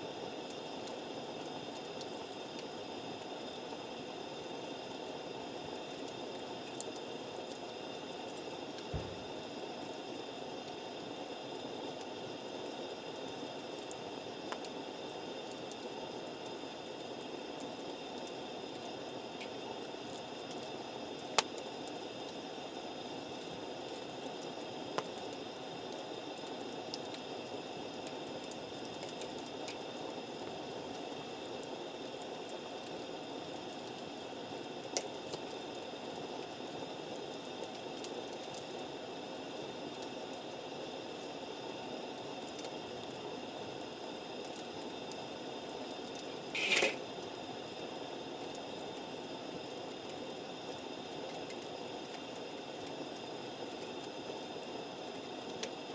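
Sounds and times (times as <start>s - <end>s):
campfire hissing and crackling: 0.0s - 55.9s.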